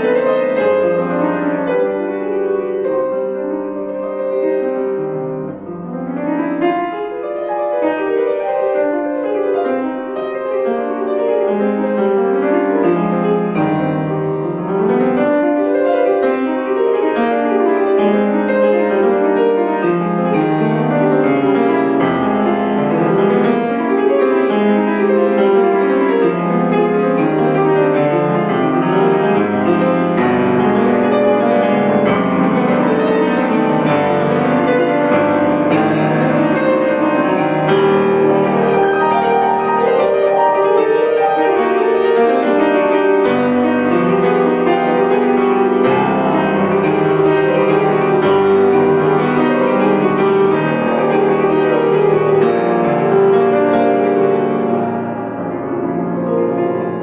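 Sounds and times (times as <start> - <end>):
classical piano piece: 0.0 - 57.0.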